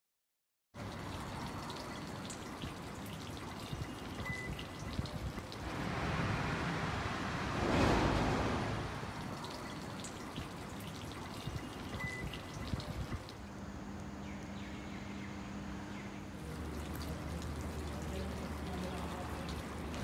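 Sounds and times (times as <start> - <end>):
rain dripping and trickling: 0.8 - 14.4, 16.2 - 20.0.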